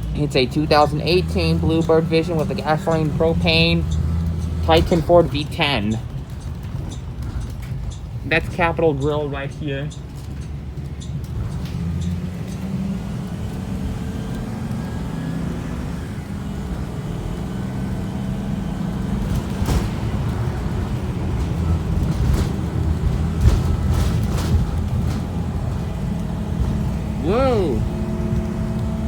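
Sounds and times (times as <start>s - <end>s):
bus body clattering: 0.0s - 29.0s
bus engine and road rumble: 0.0s - 29.0s.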